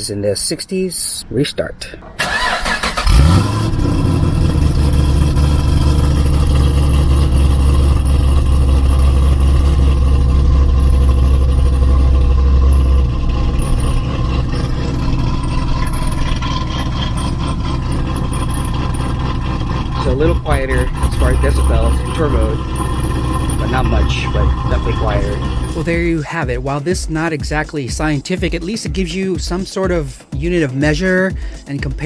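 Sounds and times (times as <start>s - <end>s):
car engine starting and idling: 1.9s - 28.6s.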